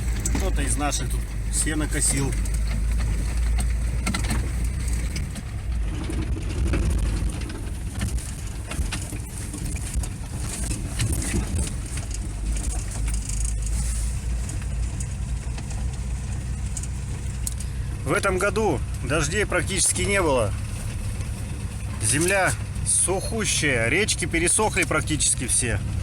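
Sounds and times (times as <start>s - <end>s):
rattles and knocks from bumps: 0.0s - 26.0s
vehicle engine and road rumble: 0.0s - 26.0s.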